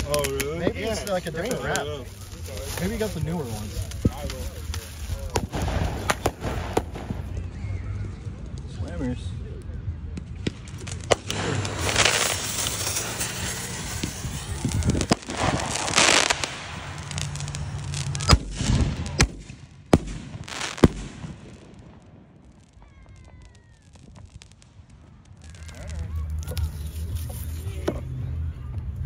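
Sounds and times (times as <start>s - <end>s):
firework shells bursting: 0.0s - 7.4s, 10.2s - 27.6s
firework mortar launch crack: 0.0s - 7.6s, 10.1s - 27.9s.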